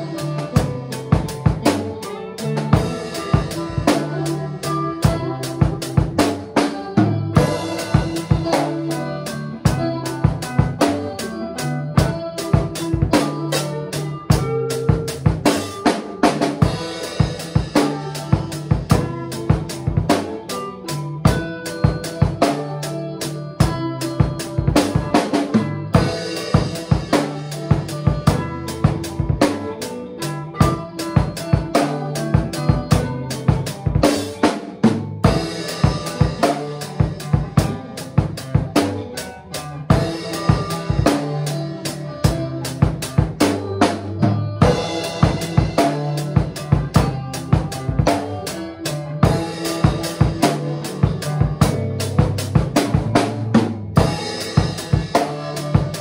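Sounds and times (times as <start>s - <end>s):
drum kit playing: 0.0s - 56.0s
rock band playing live: 0.0s - 56.0s.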